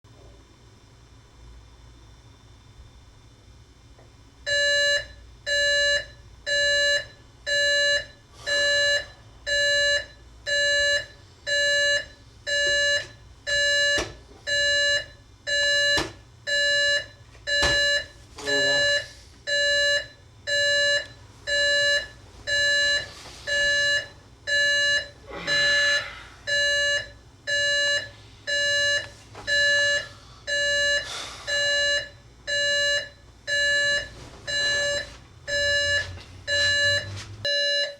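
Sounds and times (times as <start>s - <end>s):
alarm clock beeping: 4.5s - 37.9s.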